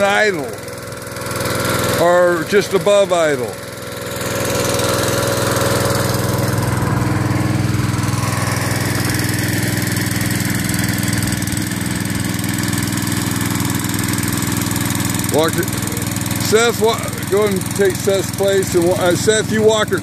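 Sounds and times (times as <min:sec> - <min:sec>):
small water pump engine running: 0:00.0 - 0:20.0.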